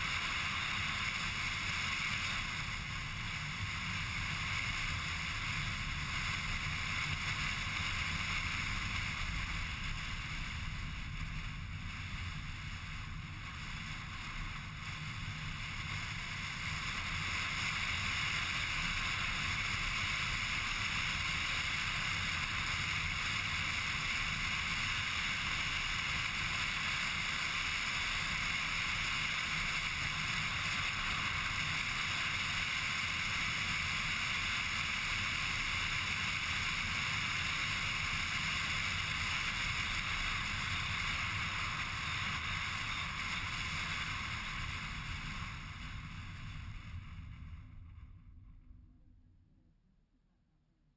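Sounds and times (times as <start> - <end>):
car road and engine noise: 0.0 - 48.3.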